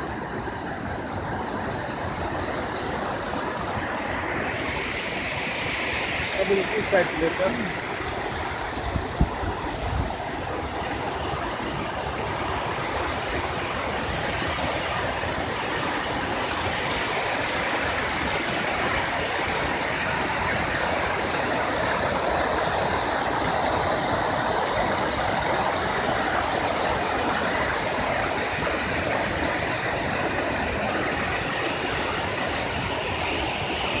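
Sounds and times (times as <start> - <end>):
rushing whitewater: 0.0 - 34.0.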